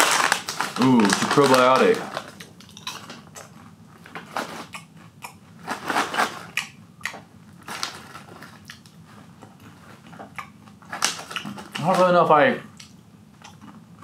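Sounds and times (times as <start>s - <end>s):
snack bag rustling: 0.0s - 12.4s
popcorn crunching: 0.0s - 14.0s.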